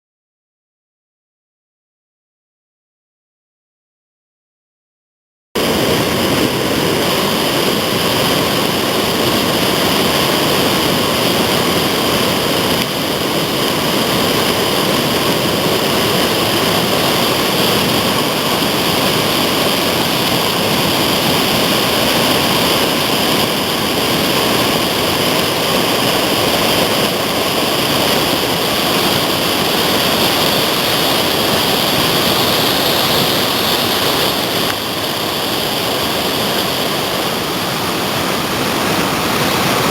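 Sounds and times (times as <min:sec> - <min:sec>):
whitewater roaring: 0:05.6 - 0:39.9.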